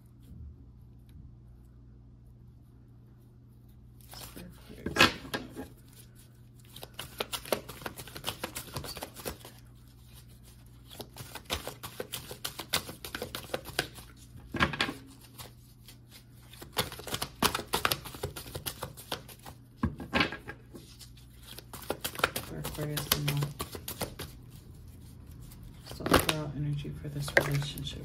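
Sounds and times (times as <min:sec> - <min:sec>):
cards being shuffled: 0:04.0 - 0:19.7, 0:20.4 - 0:28.0.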